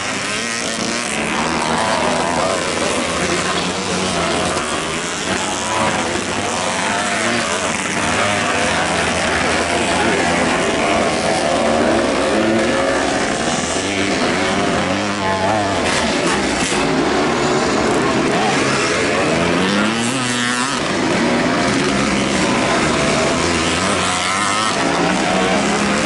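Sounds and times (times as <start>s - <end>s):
motorcycles racing engines revving: 0.0s - 26.0s.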